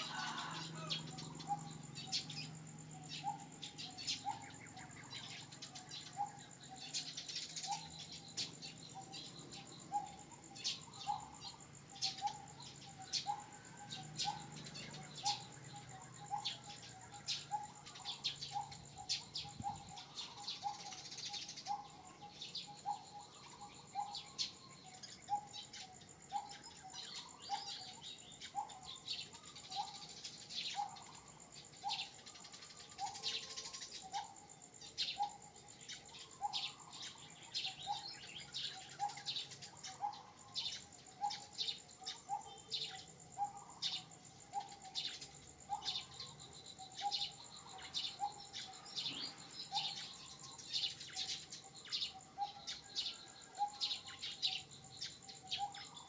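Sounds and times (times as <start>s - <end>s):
high insect whine: 0.0s - 56.0s.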